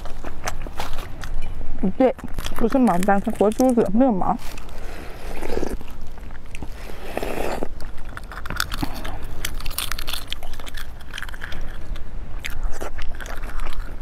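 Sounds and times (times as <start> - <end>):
chewing: 0.0 - 14.0
eggshell cracking and peeling: 2.1 - 14.0.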